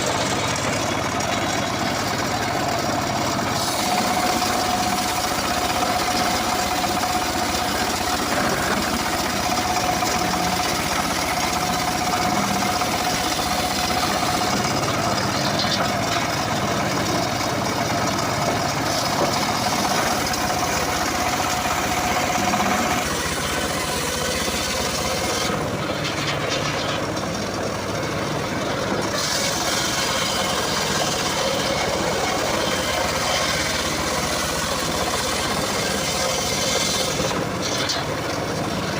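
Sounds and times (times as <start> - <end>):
circular sawmill running: 0.0 - 38.9.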